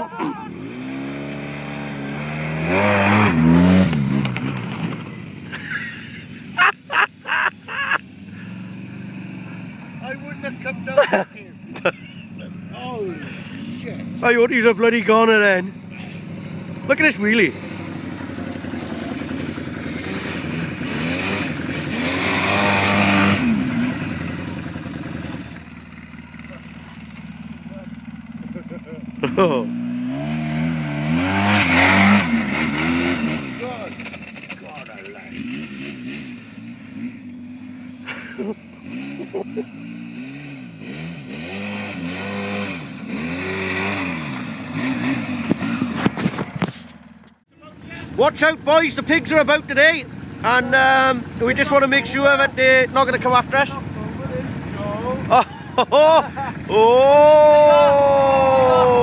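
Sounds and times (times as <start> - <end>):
quad bike engine revving: 0.0 - 6.6, 8.0 - 59.0.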